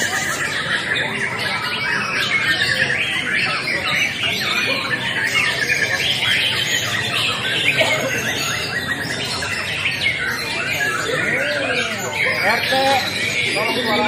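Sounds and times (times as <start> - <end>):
chorus of birds singing: 0.0 - 14.0.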